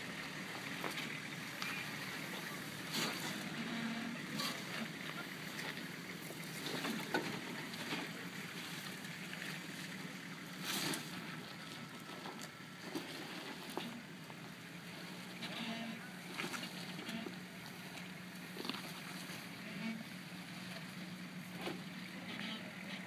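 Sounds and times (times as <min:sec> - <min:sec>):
vehicle engine low hum: 0:00.0 - 0:23.0.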